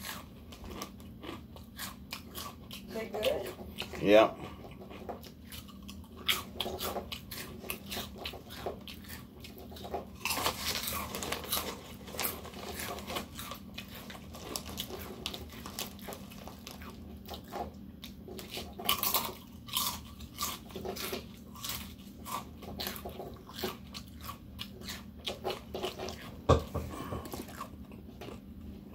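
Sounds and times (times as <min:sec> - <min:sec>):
chewing crunchy potato chips: 0:00.0 - 0:28.9.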